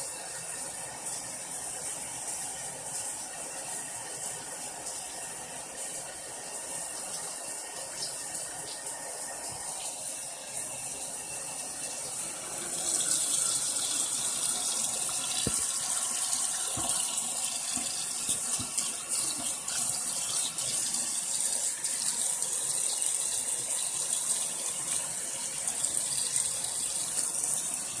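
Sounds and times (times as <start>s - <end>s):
tap water running into sink: 4.2s - 28.0s.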